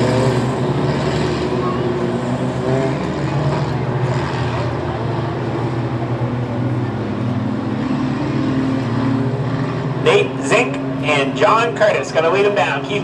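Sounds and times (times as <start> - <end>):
truck engines droning: 0.0 - 13.0.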